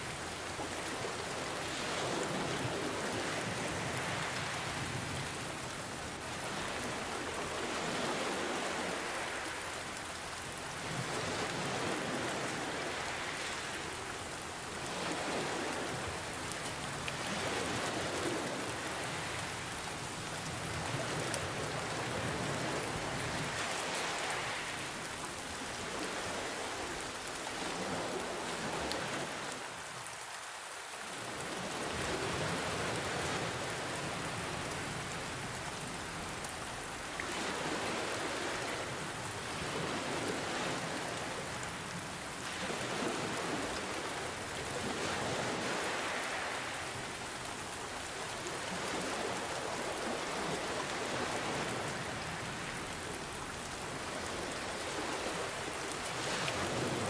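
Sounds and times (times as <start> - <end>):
ocean waves: 0.0 - 57.0
rain hiss: 0.0 - 57.0.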